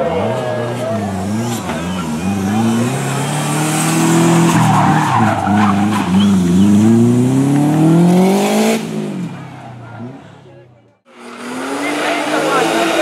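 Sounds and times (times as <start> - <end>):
car engine revving hard: 0.0 - 9.4, 11.1 - 13.0
tyres skidding: 0.0 - 13.0.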